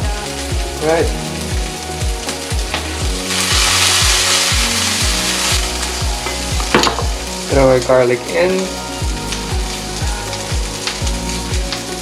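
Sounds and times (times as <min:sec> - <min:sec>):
background music with steady beat: 0:00.0 - 0:12.0
vegetables sizzling in a frying pan: 0:00.0 - 0:12.0.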